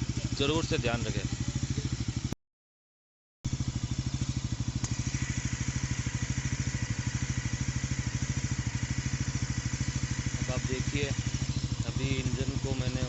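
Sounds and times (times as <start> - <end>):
motorcycle engine idling: 0.0 - 2.4, 3.5 - 13.0.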